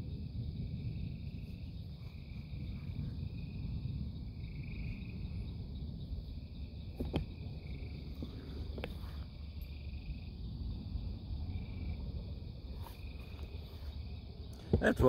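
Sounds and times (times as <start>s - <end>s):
low rumble: 0.0s - 14.7s
night insects chirping: 0.0s - 15.0s.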